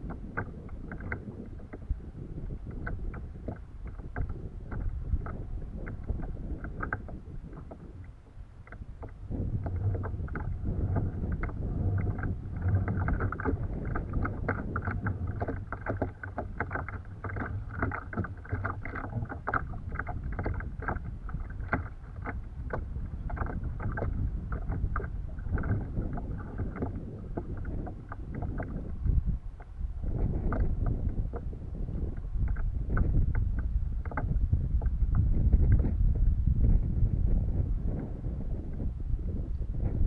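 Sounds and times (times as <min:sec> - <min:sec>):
water slapping plastic hull: 0:00.0 - 0:40.0
wind rumble on microphone: 0:00.0 - 0:40.0.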